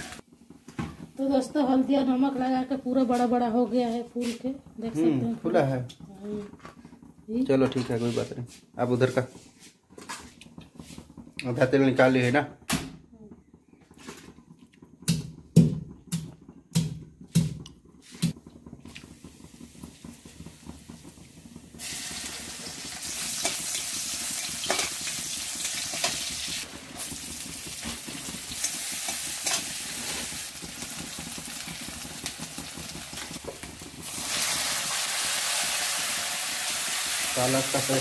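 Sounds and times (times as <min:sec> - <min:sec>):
oil sizzling in pan: 0:00.0 - 0:12.6, 0:14.0 - 0:38.0.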